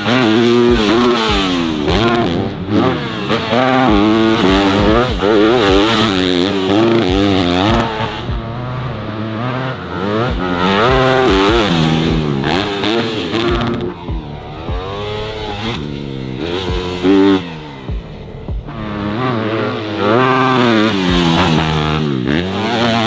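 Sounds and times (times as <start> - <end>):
dirt bike engine revving: 0.0 - 23.0
low thumps: 0.0 - 23.0.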